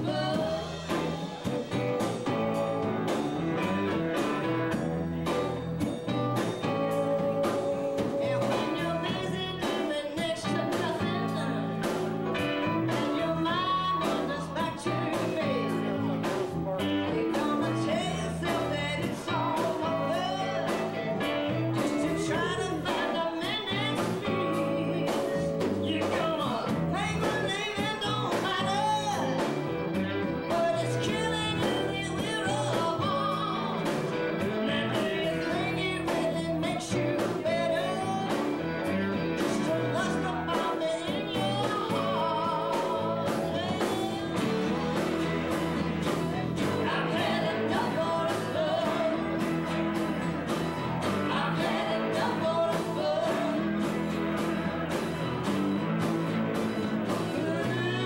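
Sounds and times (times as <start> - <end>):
woman singing: 0.0 - 5.4, 6.1 - 54.5, 56.4 - 58.0
drum beats: 0.0 - 58.0
electric bass: 0.0 - 58.0
strummed acoustic guitar: 0.0 - 58.0.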